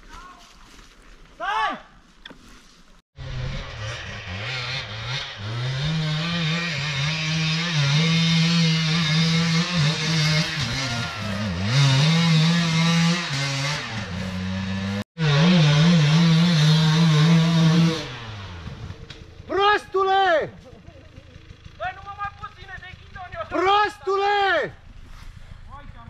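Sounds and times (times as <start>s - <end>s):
two-stroke dirt bike engine revving: 3.2s - 26.0s.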